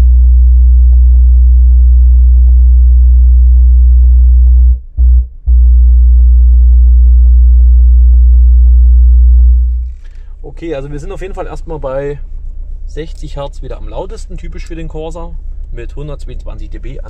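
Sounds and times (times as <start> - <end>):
subwoofer low sine tone: 0.0 - 17.0.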